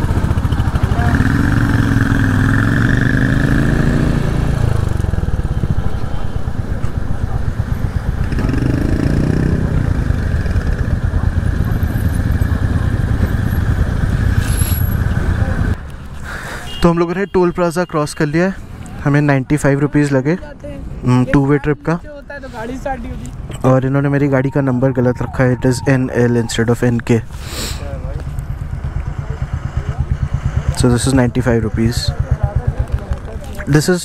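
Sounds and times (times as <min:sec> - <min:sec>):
motorcycle engines running: 0:00.0 - 0:16.8, 0:22.7 - 0:34.0.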